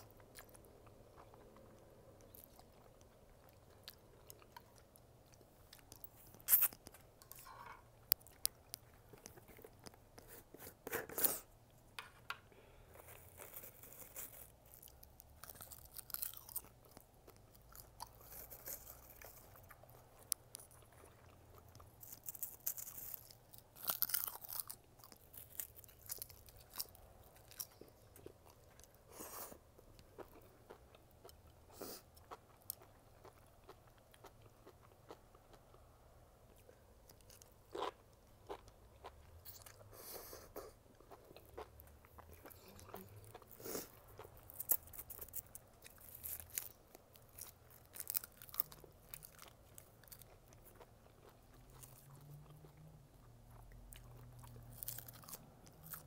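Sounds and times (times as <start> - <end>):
person chewing crunchy food: 0.0 - 11.5, 12.8 - 35.8, 36.5 - 56.0.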